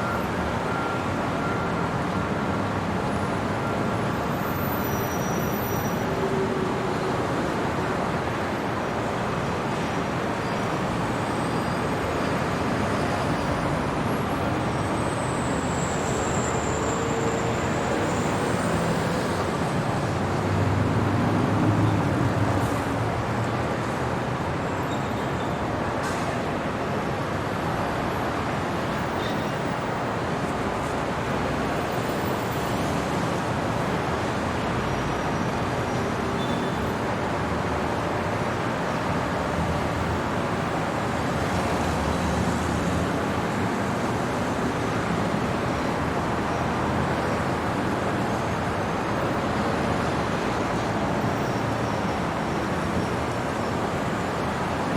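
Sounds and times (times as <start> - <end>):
city traffic noise: 0.0 - 54.9.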